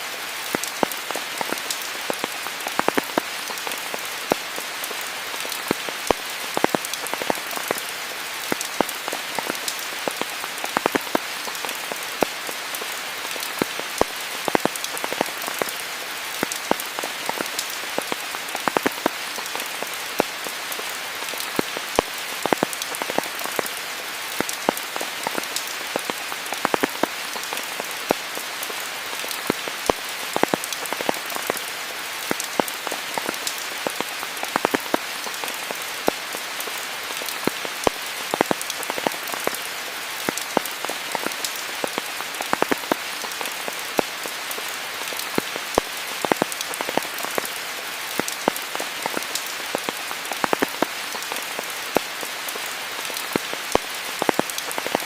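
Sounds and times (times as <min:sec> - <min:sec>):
close raindrops ticking: 0:00.0 - 0:55.0
steady rain hiss: 0:00.0 - 0:55.0.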